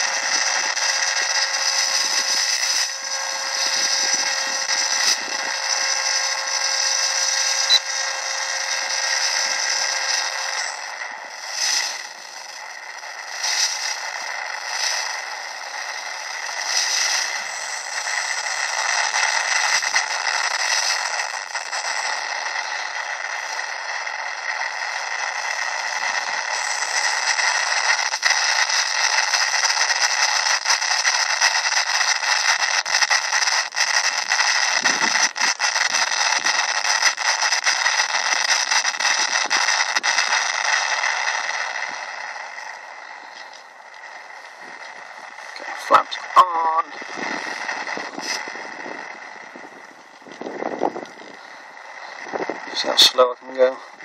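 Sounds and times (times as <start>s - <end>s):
radio static hiss: 0.0s - 54.0s
static crackles and clicks: 0.0s - 54.0s.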